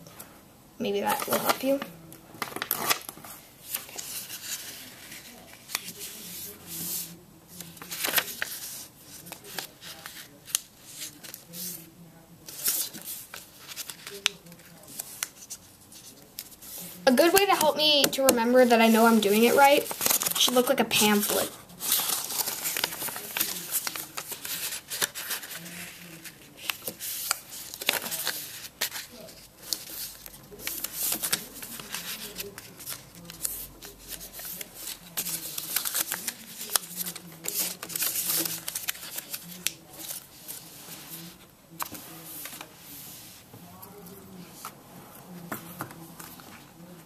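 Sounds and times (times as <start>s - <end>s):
paper rustling and crackling: 1.0s - 47.0s.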